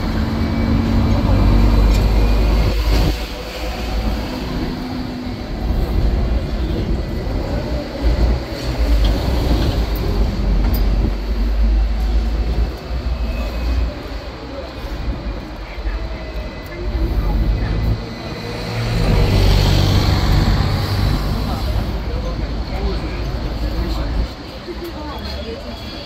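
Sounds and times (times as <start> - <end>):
tram wheels rumbling on track: 0.0 - 26.0.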